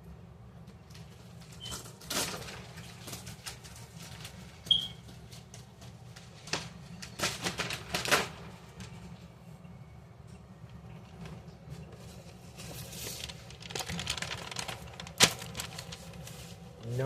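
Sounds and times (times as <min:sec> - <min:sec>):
paper rustling: 0:00.9 - 0:09.0, 0:11.1 - 0:17.0
steady low hum: 0:02.4 - 0:17.0.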